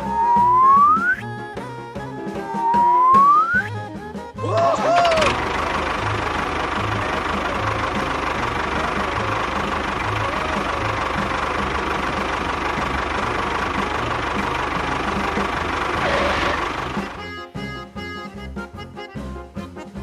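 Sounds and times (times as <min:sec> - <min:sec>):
music: 0:00.0 - 0:20.0.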